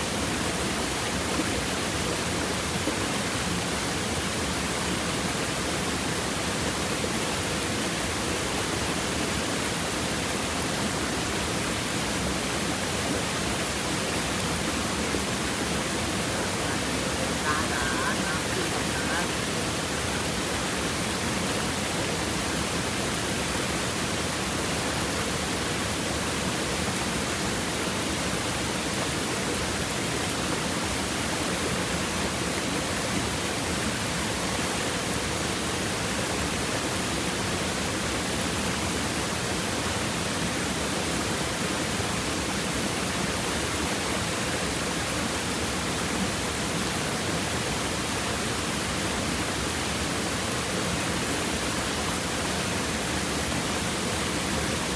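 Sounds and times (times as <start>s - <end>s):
stream babbling over rocks: 0.0s - 54.9s.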